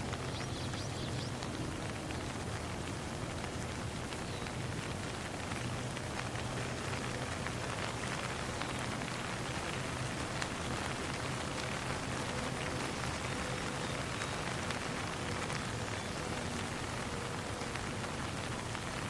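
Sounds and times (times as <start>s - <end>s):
raindrops ticking: 0.0s - 19.0s
steady rain falling: 0.0s - 19.0s.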